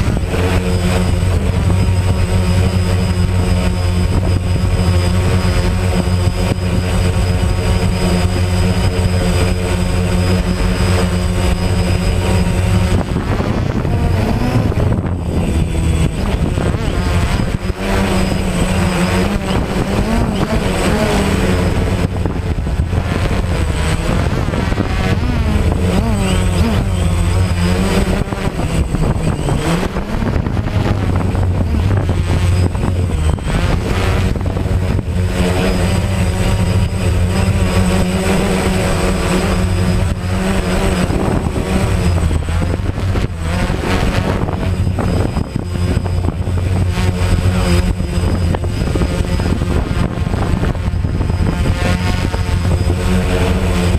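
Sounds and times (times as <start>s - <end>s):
drone propellers buzzing: 0.0s - 53.9s.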